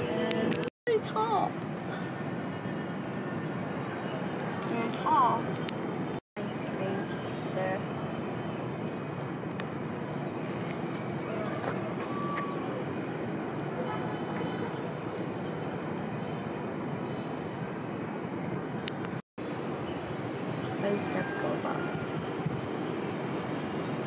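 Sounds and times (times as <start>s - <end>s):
constant background noise: 0.0s - 24.0s
shrill insect chorus: 0.9s - 24.0s.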